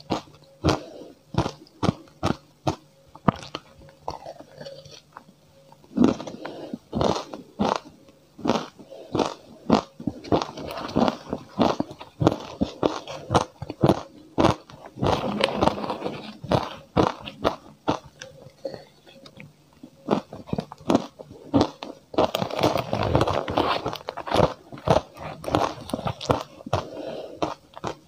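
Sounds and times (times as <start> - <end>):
crunching and chewing ice: 0.0 - 28.0.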